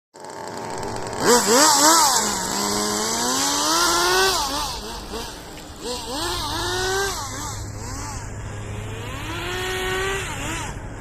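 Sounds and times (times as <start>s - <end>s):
small engine revving: 0.2s - 11.0s.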